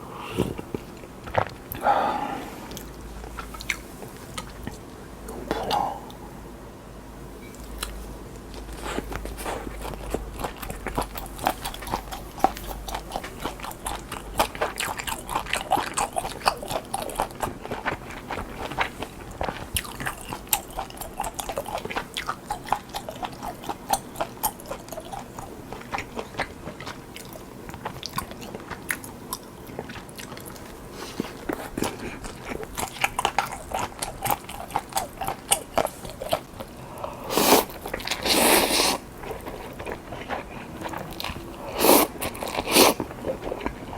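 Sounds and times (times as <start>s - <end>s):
person chewing crunchy food: 0.2s - 6.2s, 7.7s - 43.9s.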